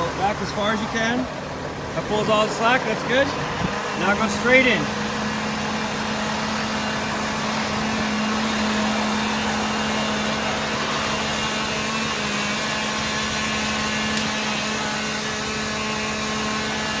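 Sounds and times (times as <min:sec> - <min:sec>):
fire engine motor idling: 0:00.0 - 0:17.0.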